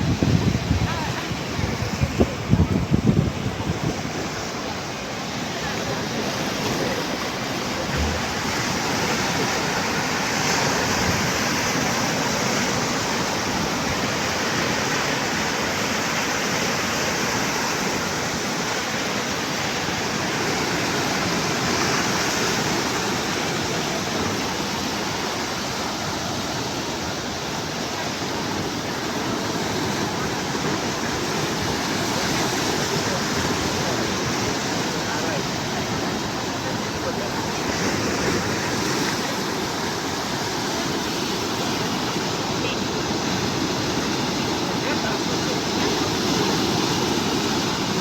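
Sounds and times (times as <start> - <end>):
sea waves washing in: 0.0 - 48.0.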